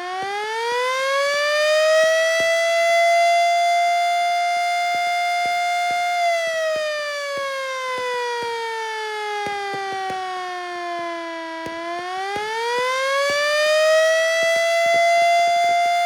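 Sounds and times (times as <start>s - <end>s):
motor-driven siren wailing: 0.0s - 16.0s.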